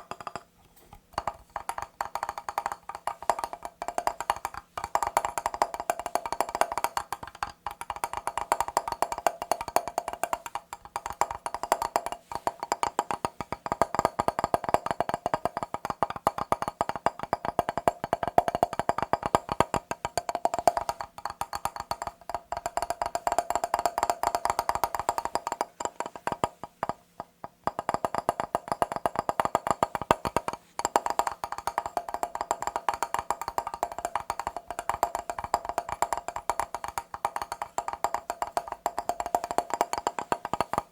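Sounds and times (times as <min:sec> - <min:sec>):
fast tapping on a mirror: 0:00.0 - 0:40.9.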